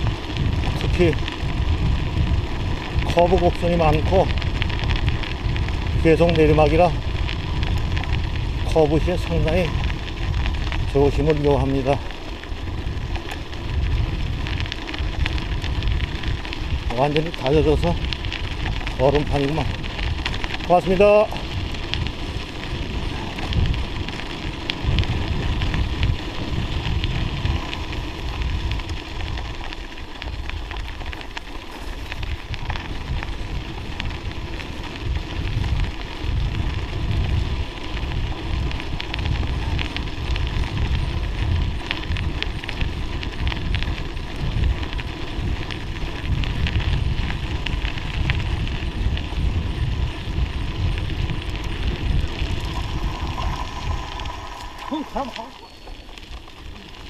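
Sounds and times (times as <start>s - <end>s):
bike tyres crackling over icy snow: 0.0s - 57.0s
wind buffeting microphone: 0.0s - 57.0s.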